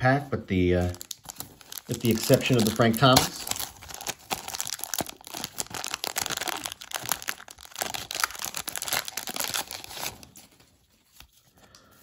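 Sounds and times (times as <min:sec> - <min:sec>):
plastic wrapper crinkling and tearing: 0:00.8 - 0:11.5.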